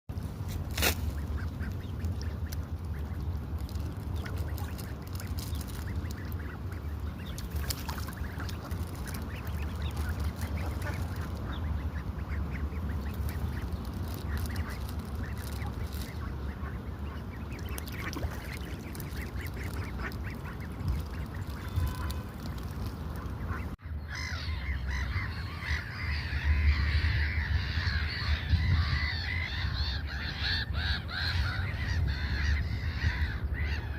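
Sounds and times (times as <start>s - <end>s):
steady low rumble: 0.1s - 33.9s
waterbirds calling: 0.1s - 33.9s
chatter of many birds: 1.1s - 33.9s.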